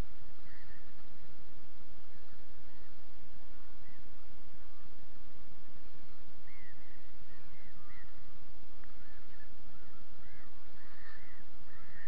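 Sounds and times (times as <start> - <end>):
background hiss: 0.0 - 12.0
distant birds chirping: 0.0 - 12.0.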